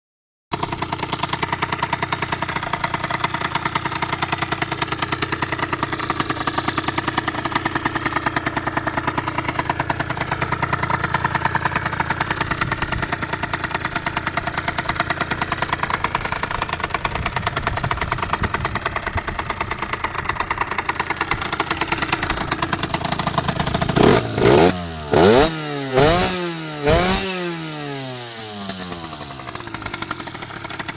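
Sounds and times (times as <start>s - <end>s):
two-stroke engine idling and revving: 0.5s - 30.9s.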